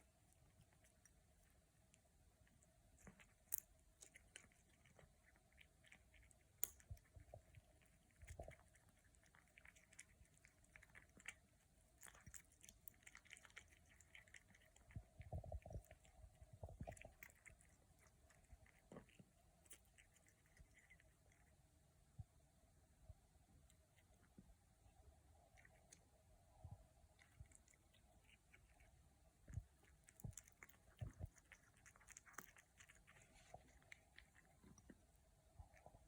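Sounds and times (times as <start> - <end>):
kitten chewing: 0.0 - 22.3, 22.9 - 36.0.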